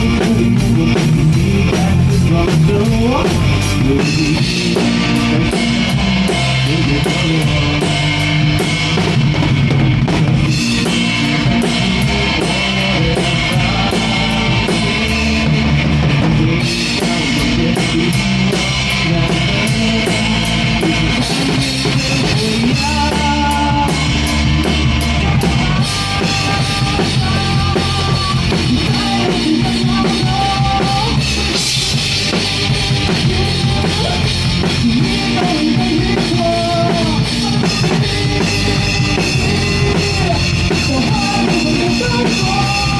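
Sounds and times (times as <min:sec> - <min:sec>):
lead melody line: 0:00.0 - 0:42.9
rock band playing: 0:00.0 - 0:42.9.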